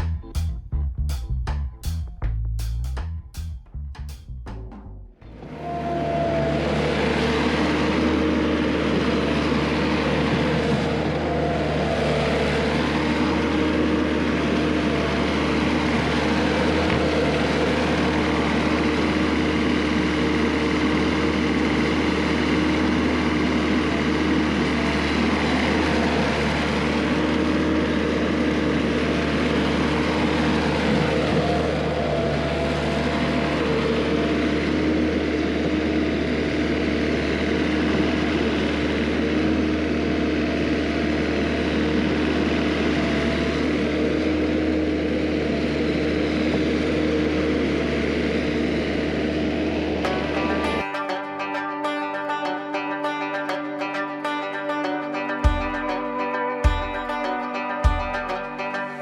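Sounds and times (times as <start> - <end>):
skid steer engine running: 4.6 - 59.0.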